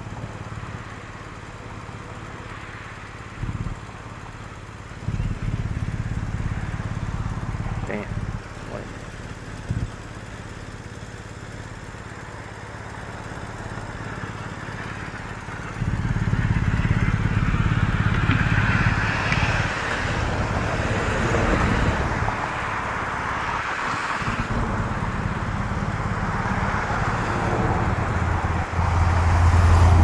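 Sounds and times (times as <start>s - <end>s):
road noise: 0.0s - 30.0s
vehicle engine running: 0.0s - 30.0s.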